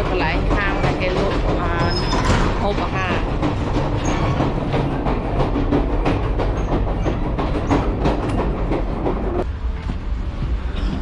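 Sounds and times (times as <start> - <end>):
train car rattling: 0.0 - 11.0
train rumbling on rails: 0.0 - 11.0
train wheels clacking: 0.0 - 11.0.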